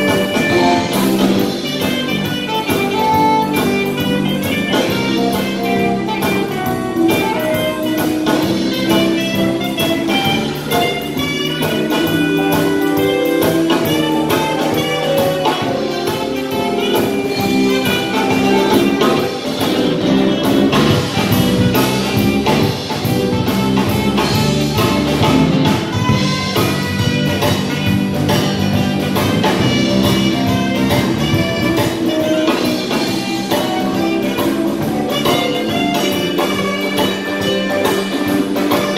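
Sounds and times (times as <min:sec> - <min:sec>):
drum kit: 0:00.0 - 0:38.9
electric guitars: 0:00.0 - 0:38.9
keyboard: 0:00.0 - 0:38.9
saxophone section: 0:00.0 - 0:38.9.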